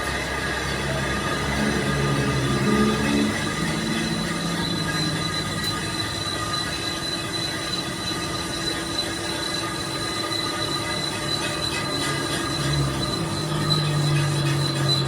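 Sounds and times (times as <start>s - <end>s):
machine working metal with whine: 0.0s - 15.0s.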